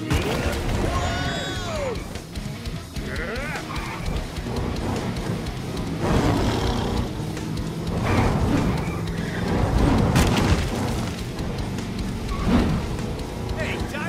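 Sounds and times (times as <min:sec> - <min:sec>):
background music: 0:00.0 - 0:14.0
monster truck engines revving: 0:00.0 - 0:14.0.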